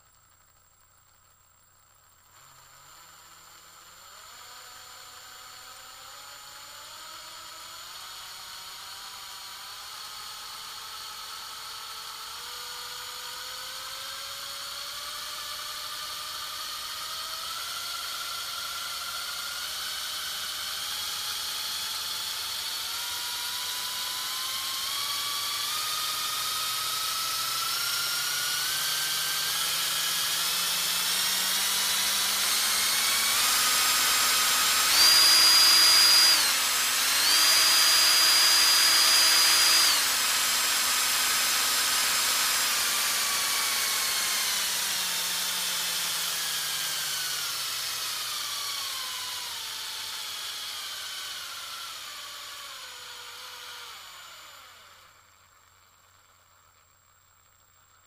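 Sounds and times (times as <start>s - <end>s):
power drill whining: 0.0s - 58.0s.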